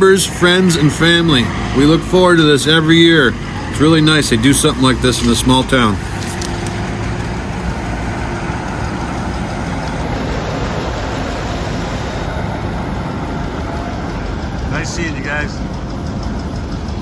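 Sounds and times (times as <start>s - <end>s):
tractor and car engines droning: 0.0s - 17.0s.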